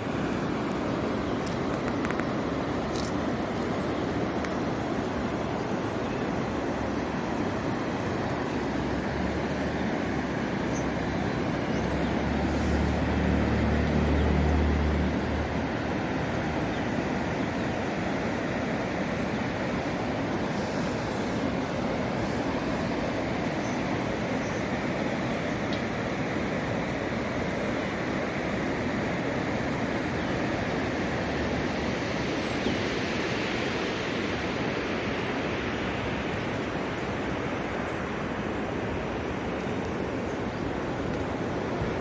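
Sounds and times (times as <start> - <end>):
river water rushing: 0.0 - 42.0.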